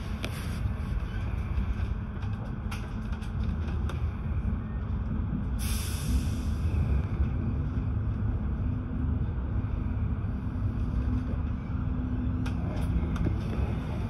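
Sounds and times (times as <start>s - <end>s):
faint hum: 0.0s - 14.0s
train wheels rumbling on track: 0.0s - 14.0s.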